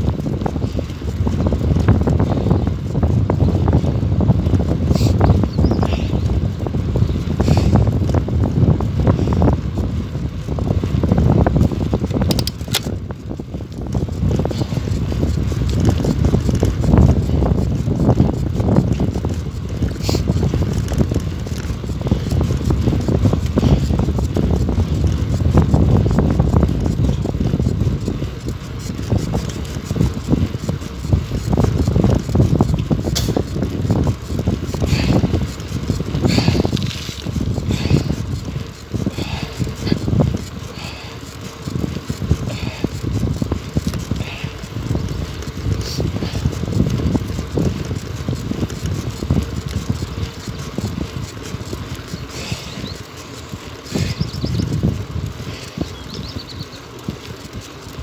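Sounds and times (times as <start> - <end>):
bicycle riding on asphalt: 0.0 - 58.0
wind buffeting microphone: 0.0 - 58.0.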